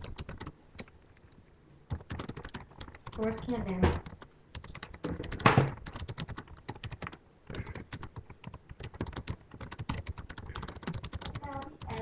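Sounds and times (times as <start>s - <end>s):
computer keyboard typing: 0.0s - 12.0s.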